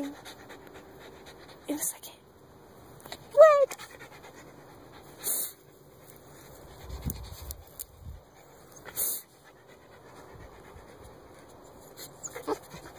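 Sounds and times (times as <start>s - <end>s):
dog panting: 0.0s - 2.0s, 3.6s - 12.9s.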